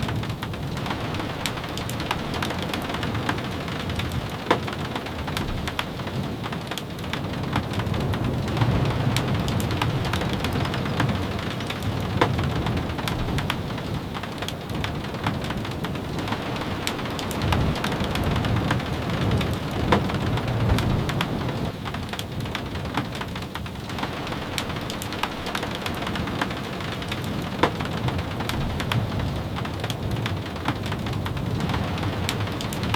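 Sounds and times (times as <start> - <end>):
steady rain with drop taps: 0.0 - 32.9.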